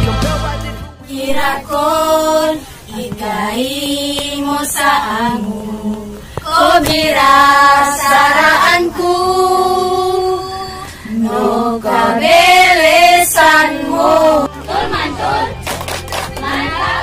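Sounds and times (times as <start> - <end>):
women singing unaccompanied: 1.0 - 15.6, 16.3 - 17.0.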